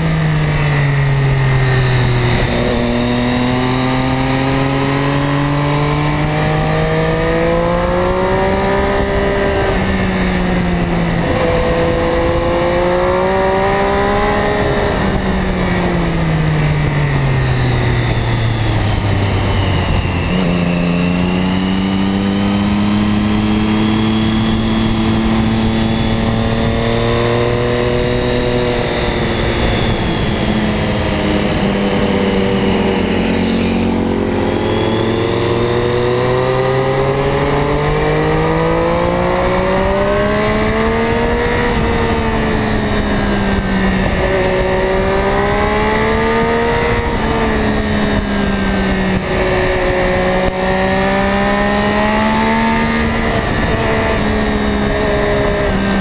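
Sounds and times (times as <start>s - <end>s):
motorcycle engine accelerating: 0.0s - 56.0s
wind rush: 0.0s - 56.0s.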